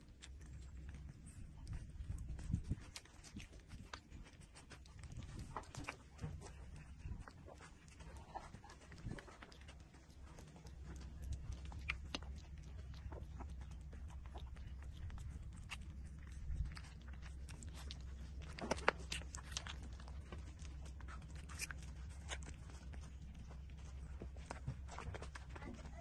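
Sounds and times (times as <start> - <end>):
low steady hum: 0.0 - 26.0
puppies suckling wet clicks: 0.0 - 26.0.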